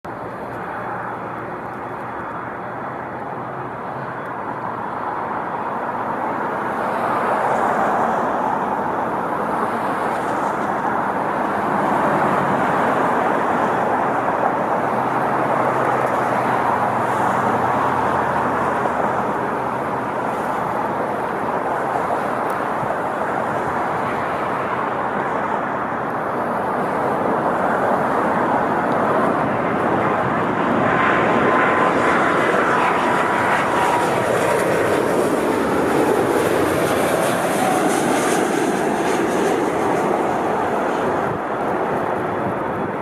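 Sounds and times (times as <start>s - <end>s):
jet engines roaring: 0.1s - 43.0s.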